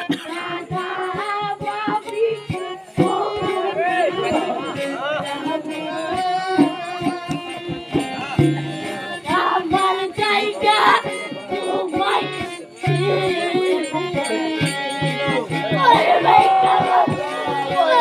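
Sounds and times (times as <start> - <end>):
folk music with singing: 0.0 - 18.0.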